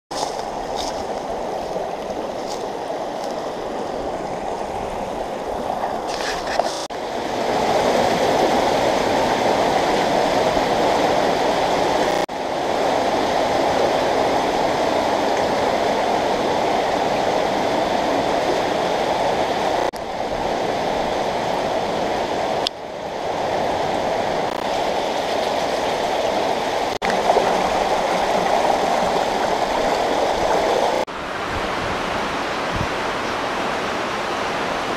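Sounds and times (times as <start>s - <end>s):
stream water rushing over rocks: 0.1s - 34.9s.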